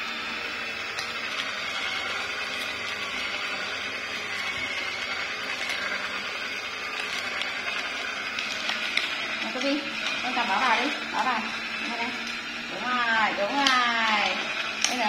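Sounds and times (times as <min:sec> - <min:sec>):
slow juicer running: 0:00.0 - 0:15.0.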